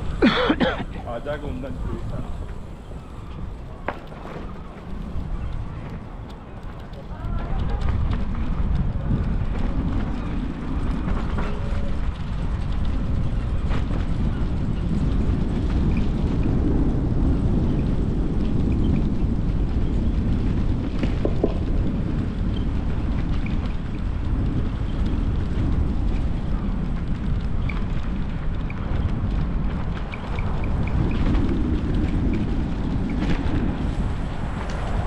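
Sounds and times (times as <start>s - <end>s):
tyres rolling over paving: 0.0s - 35.0s
wind rumble on microphone: 0.0s - 35.0s.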